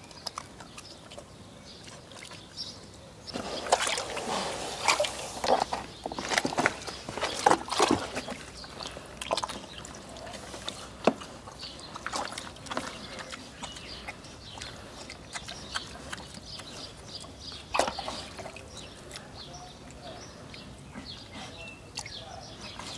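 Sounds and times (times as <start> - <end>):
water sloshing and splashing: 0.2 - 2.6, 3.3 - 19.3.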